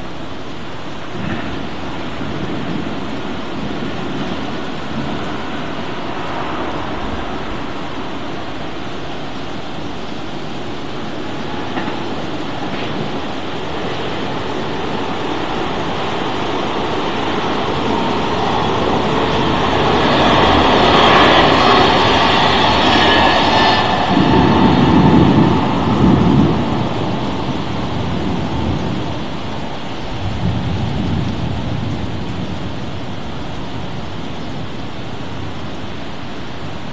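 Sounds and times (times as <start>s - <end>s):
rain falling: 0.0s - 36.9s
thunder rumble: 0.0s - 36.9s.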